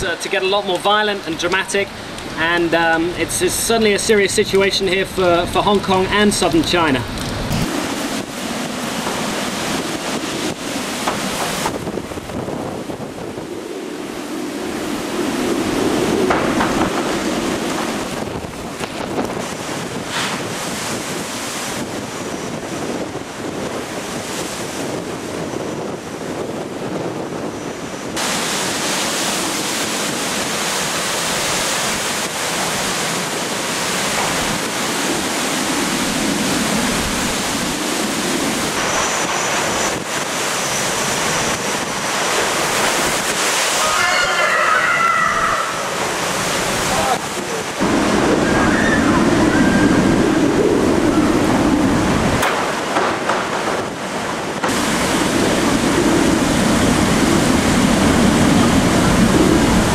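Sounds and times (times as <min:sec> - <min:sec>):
strong wind: 0:00.0 - 0:59.9
waves splashing on pier: 0:00.0 - 0:59.9
wind buffeting microphone: 0:00.0 - 0:59.9.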